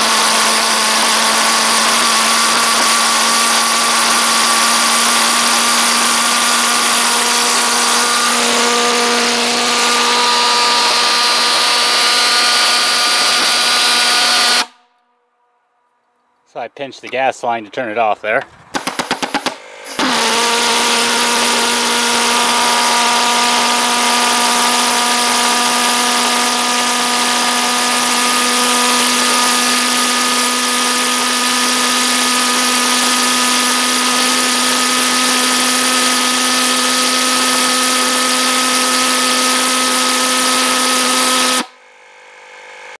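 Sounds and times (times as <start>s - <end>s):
pulse jet engine buzzing drone: 0.0s - 14.8s, 18.7s - 32.0s, 36.4s - 43.0s.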